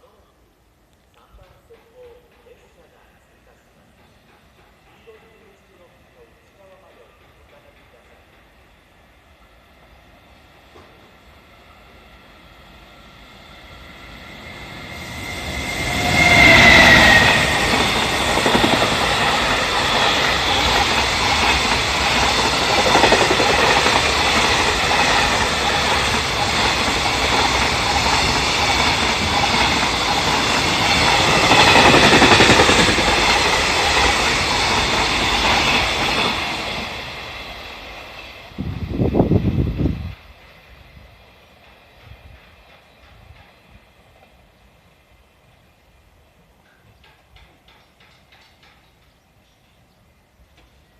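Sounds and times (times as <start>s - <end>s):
electric locomotive passing: 0.0s - 50.9s.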